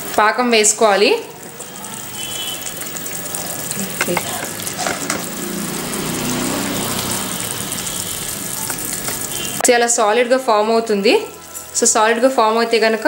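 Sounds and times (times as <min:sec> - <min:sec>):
syrup boiling sizzling hiss: 0:00.0 - 0:13.0.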